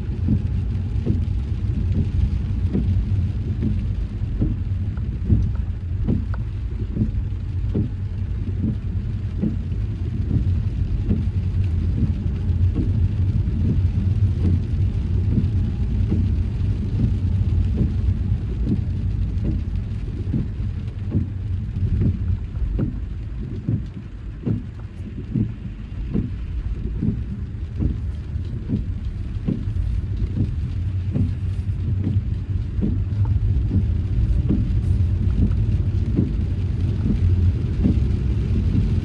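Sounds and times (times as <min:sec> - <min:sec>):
tyres and engine rumble: 0:00.0 - 0:39.0.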